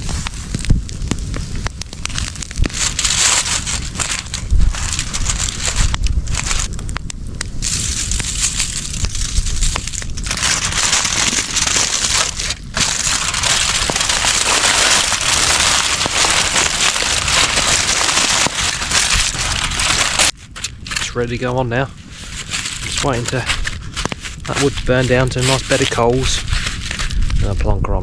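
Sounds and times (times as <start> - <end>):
campfire crackling and popping: 0.0 - 27.6.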